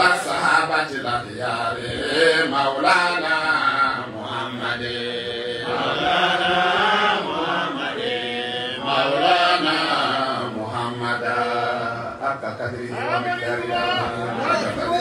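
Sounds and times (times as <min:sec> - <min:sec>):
man chanting into a microphone: 0:00.0 - 0:05.6, 0:08.4 - 0:15.0.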